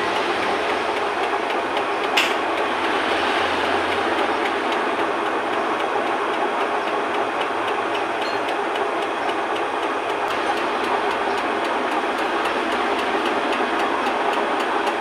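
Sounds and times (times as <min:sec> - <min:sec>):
metal lathe whirring: 0:00.0 - 0:15.0.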